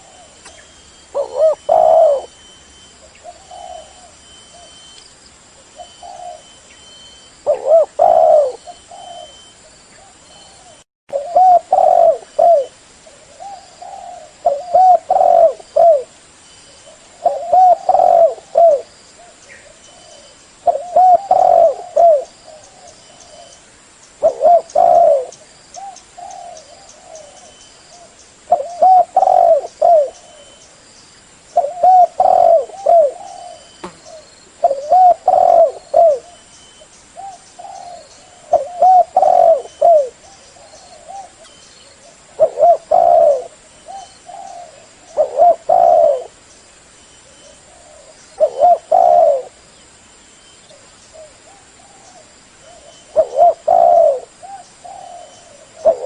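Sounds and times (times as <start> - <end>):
dove cooing: 0.0 - 2.4, 3.0 - 4.8, 5.6 - 6.6, 7.4 - 16.1, 16.8 - 23.6, 24.2 - 30.6, 31.6 - 36.5, 37.2 - 46.4, 47.2 - 49.6, 50.6 - 56.0.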